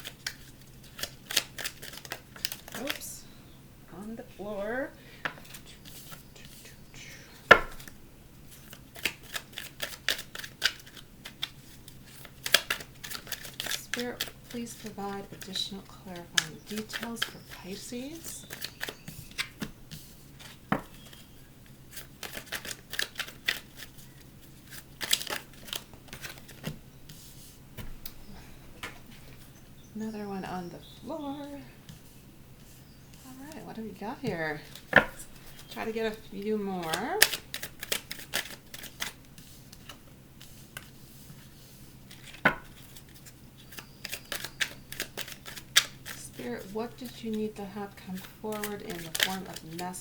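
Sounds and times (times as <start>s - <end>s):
cards being shuffled: 0.0s - 3.1s, 5.2s - 6.6s, 7.5s - 28.2s, 31.2s - 50.0s.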